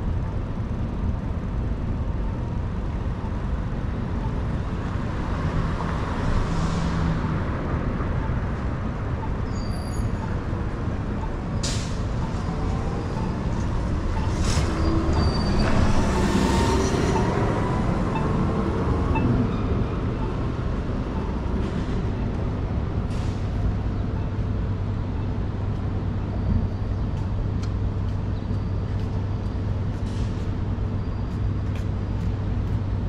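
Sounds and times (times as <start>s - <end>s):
city street traffic: 0.0s - 33.0s.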